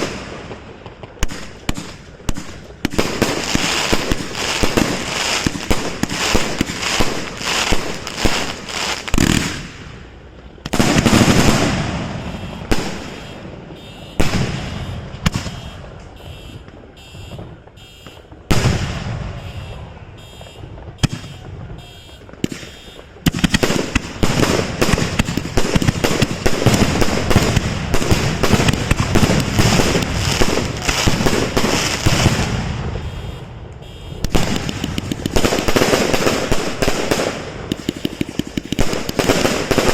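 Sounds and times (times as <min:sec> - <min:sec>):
fireworks bangs: 0:00.0 - 0:39.9
loud firework booms: 0:00.0 - 0:39.9.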